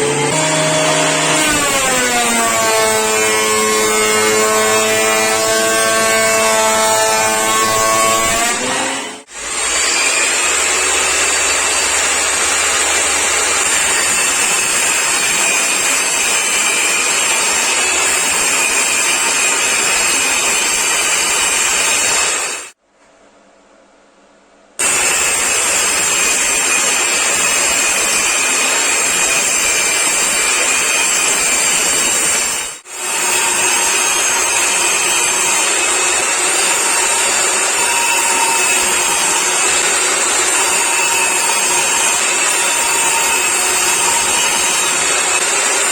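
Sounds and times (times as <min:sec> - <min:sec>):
power tool cutting wood: 0:00.0 - 0:22.8, 0:24.8 - 0:45.9.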